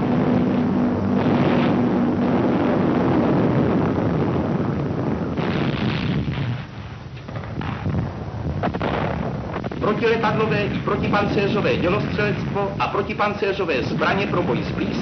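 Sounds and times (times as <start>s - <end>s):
aircraft engine drone: 0.0s - 15.0s
rumble of gunfire: 0.0s - 15.0s.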